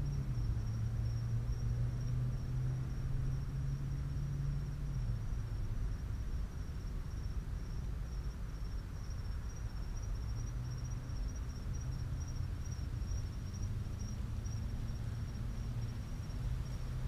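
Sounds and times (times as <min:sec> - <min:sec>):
insects trilling: 0:00.0 - 0:17.0
low steady rumble: 0:00.0 - 0:17.0.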